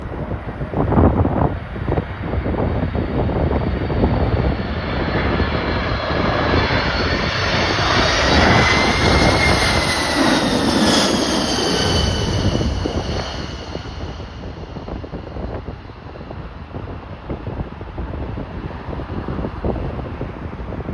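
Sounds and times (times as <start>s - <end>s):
jet airliner flying past: 0.0s - 20.9s
wind buffeting microphone: 0.0s - 20.9s.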